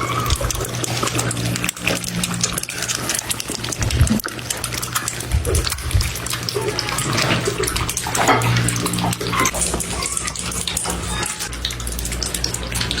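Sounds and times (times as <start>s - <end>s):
cats lapping milk: 0.0s - 13.0s.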